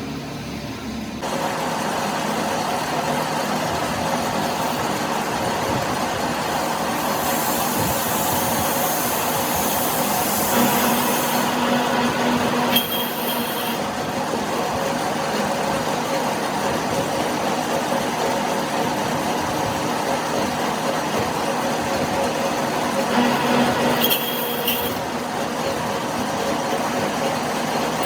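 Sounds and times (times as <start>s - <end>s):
workshop machinery humming: 0.0s - 28.0s.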